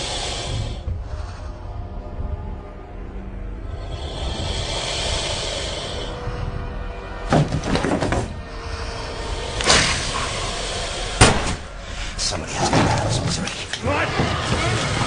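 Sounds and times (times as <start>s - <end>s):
low horror music: 0.0s - 15.0s.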